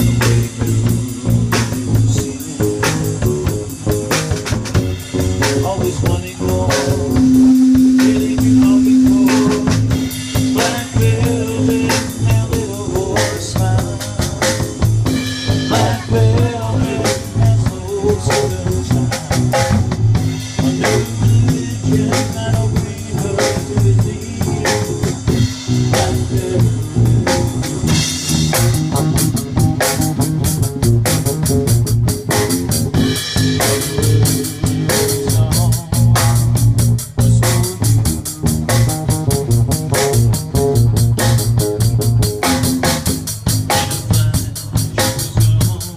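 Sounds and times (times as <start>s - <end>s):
amplified guitar: 0.0s - 45.9s
steady beat: 0.0s - 45.9s.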